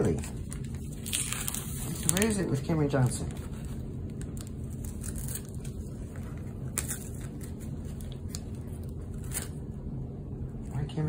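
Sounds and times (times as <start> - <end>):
paper rustling: 0.0 - 9.6
low hum: 0.0 - 11.0.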